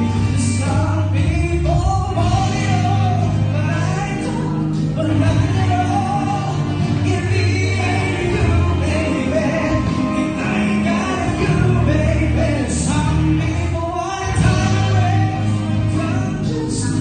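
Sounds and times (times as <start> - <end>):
instrumental accompaniment: 0.0 - 17.0
man singing into microphone: 0.0 - 17.0.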